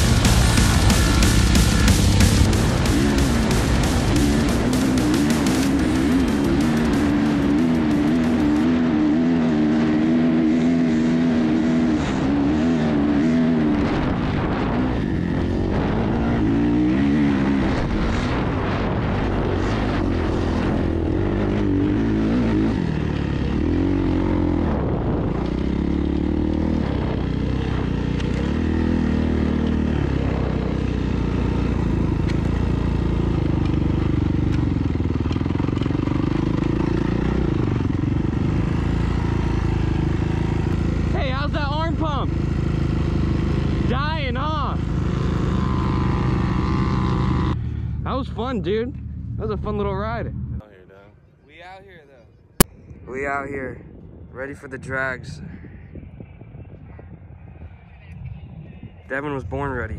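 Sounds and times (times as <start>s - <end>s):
dirt bike engine revving: 0.0s - 50.6s.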